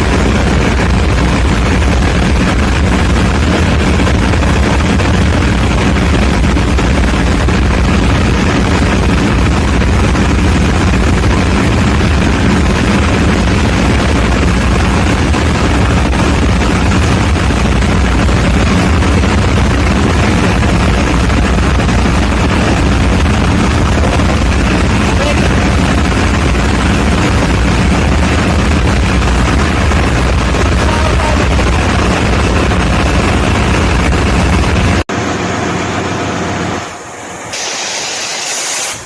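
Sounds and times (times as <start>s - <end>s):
diesel generator engine droning: 0.0s - 39.0s
machinery noise: 0.0s - 39.0s.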